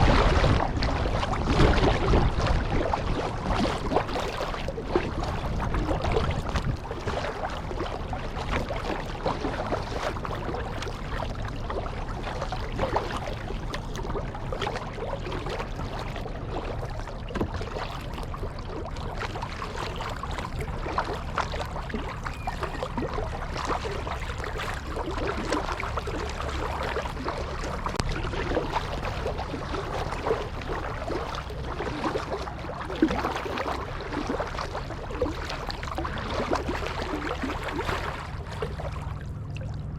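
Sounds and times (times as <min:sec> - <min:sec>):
paddle dipping and water splashing: 0:00.0 - 0:39.9
steady low rumble: 0:00.0 - 0:39.9
water lapping against hull: 0:00.0 - 0:39.9.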